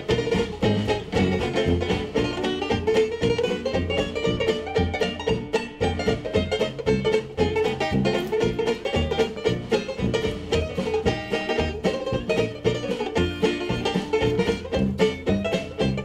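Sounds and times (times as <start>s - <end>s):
upbeat music with plucked strings: 0.0s - 16.0s.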